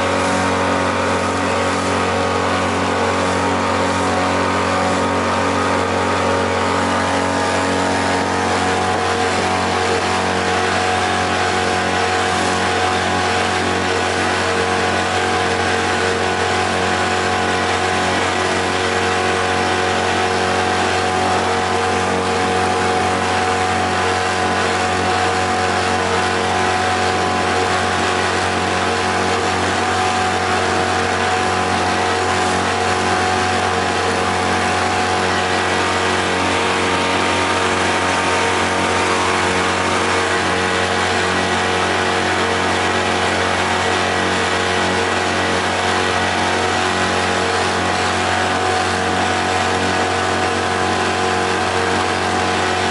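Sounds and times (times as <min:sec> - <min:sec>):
outboard motor drone: 0:00.0 - 0:52.9.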